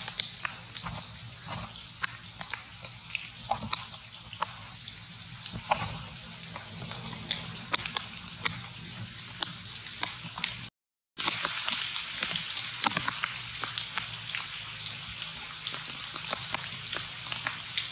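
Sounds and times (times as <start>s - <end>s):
sharp ticks and crackles: 0.0s - 17.9s.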